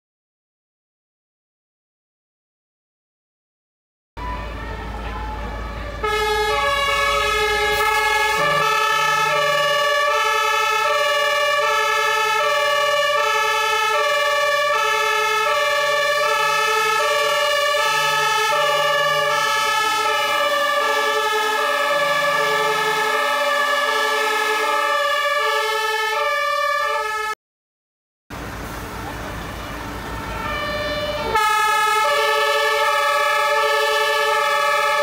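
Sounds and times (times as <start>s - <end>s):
fire engine two-tone siren: 4.2s - 27.4s, 28.4s - 35.0s.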